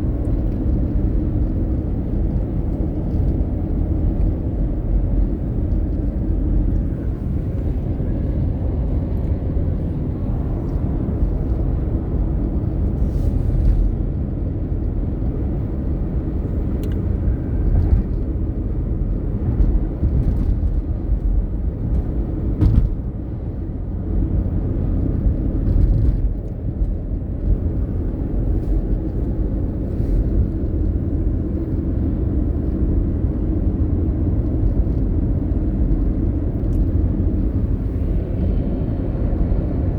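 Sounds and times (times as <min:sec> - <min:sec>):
car rumbling on the move: 0:00.0 - 0:39.9.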